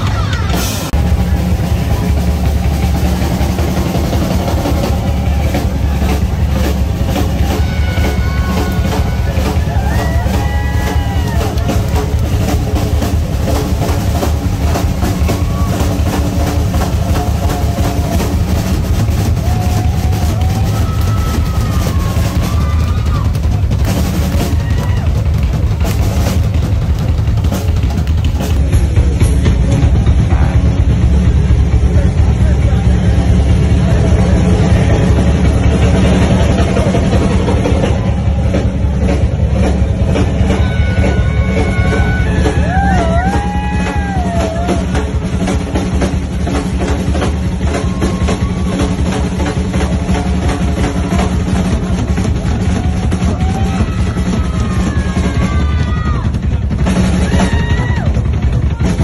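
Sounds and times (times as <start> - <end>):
drum kit: 0.0 - 59.0
heavy steady bass: 0.0 - 59.0
loud rock music: 0.0 - 59.0.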